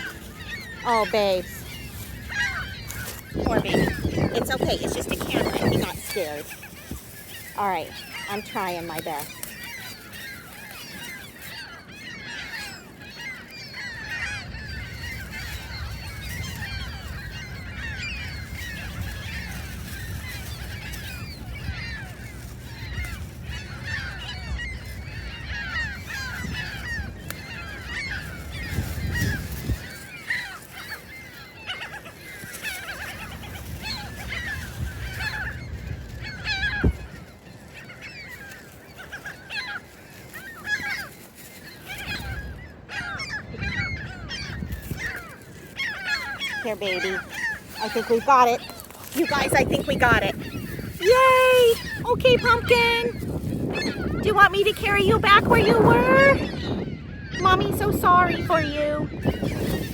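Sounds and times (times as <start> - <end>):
gulls squawking: 0.0 - 59.9.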